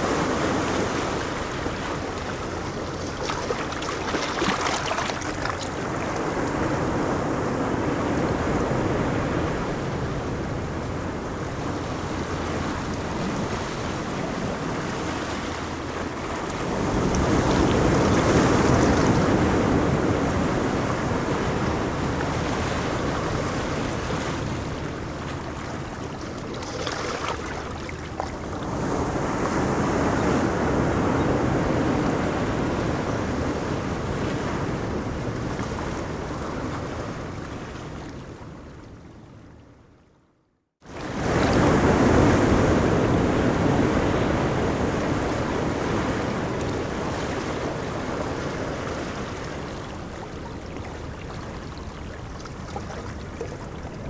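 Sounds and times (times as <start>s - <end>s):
ocean waves breaking on beach: 0.0s - 39.5s, 40.8s - 54.0s.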